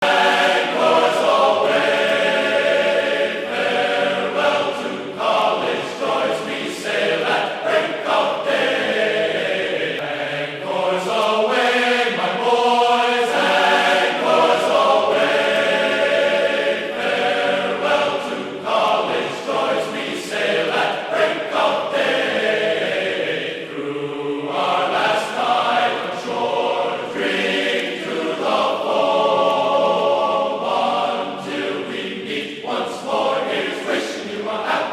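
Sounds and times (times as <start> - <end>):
music with choir voices: 0.0 - 34.9.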